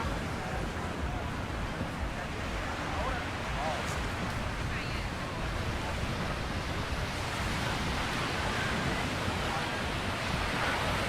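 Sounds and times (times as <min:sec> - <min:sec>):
surf washing onto beach: 0:00.0 - 0:11.0
wind rumbling on microphone: 0:00.0 - 0:11.0.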